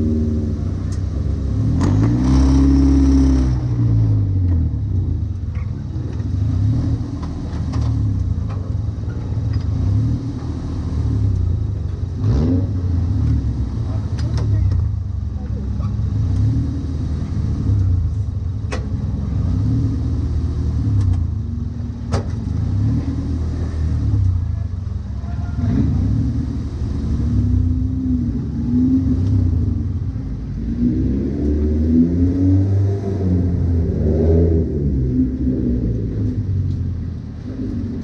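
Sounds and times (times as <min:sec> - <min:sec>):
race car engine: 0:00.0 - 0:38.0.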